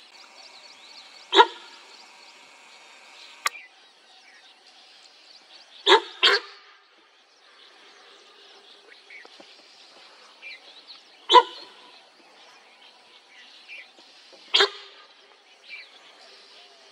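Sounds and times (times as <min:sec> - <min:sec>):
faint bird calls: 0:00.0 - 0:16.9.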